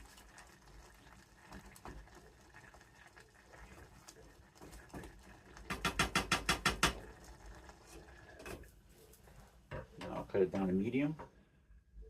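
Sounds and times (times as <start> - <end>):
spoon stirring oatmeal in a pot: 0.0 - 10.8.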